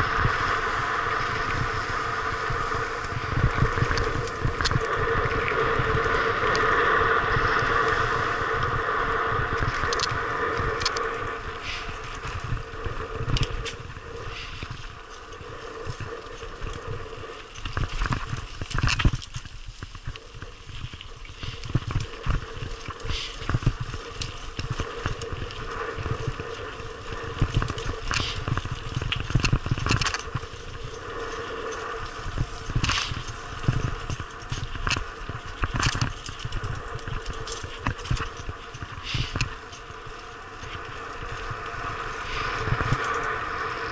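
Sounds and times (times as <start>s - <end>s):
wind rumble on microphone: 0.0s - 43.9s.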